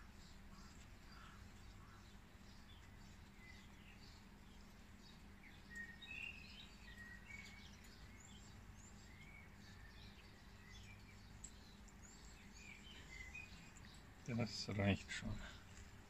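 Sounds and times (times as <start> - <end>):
birds chirping and twittering: 0.0 - 16.0
low steady hum: 0.0 - 16.0.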